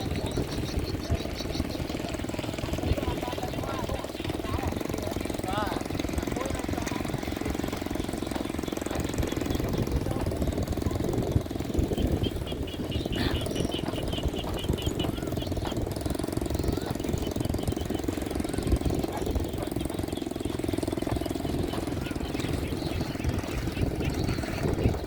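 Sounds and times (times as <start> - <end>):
small motorbike engine running: 0.0 - 25.0.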